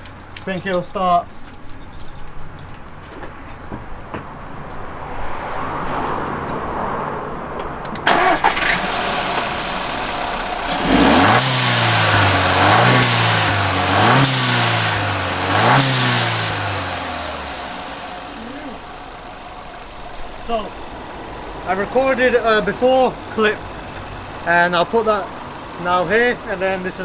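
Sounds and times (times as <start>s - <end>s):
car engine starting and revving: 4.8s - 27.0s.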